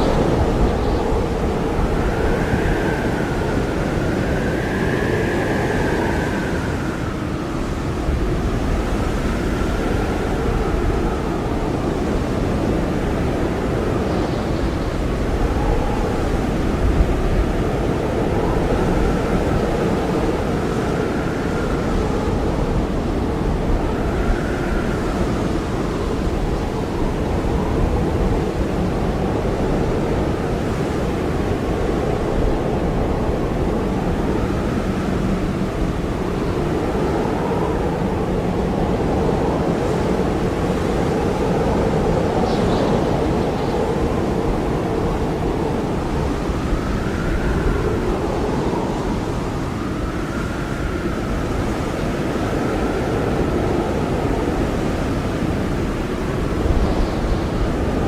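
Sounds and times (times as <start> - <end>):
blizzard wind howling: 0.0 - 58.0.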